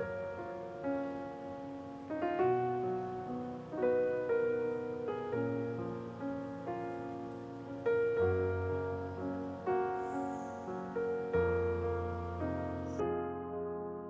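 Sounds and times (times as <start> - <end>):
soft slow piano music: 0.0 - 14.0.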